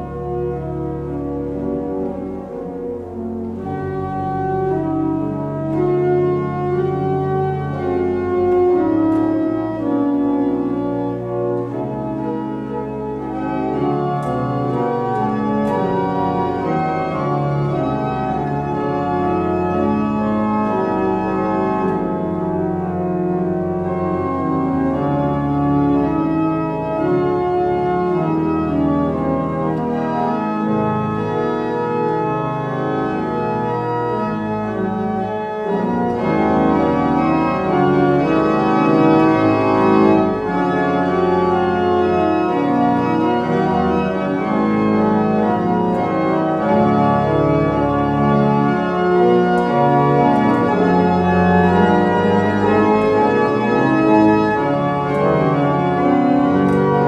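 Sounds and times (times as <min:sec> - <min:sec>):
pipe organ playing chords: 0:00.0 - 0:57.0.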